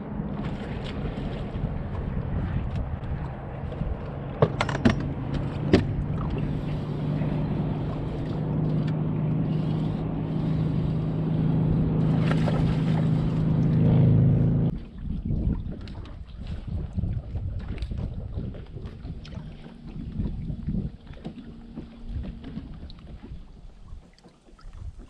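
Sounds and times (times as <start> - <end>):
steady motor hum: 0.0 - 16.2, 16.8 - 25.0
wind buffeting microphone: 0.0 - 25.0.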